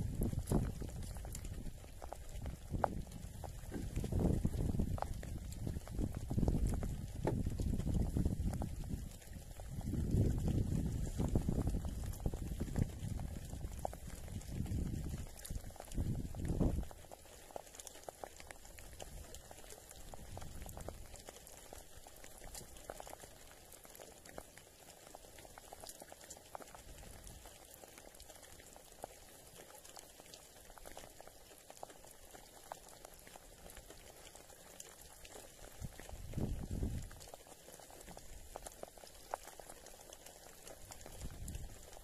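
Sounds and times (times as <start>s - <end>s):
water lapping against a boat: 0.0s - 42.0s.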